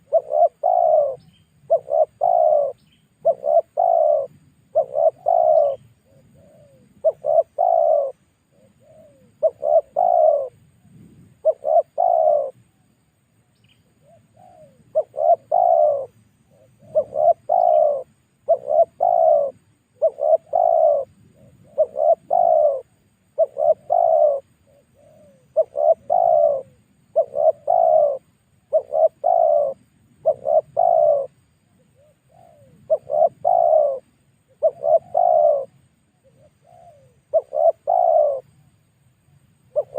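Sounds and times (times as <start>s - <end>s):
dove cooing: 0.0s - 12.9s, 13.8s - 38.7s, 39.7s - 39.9s.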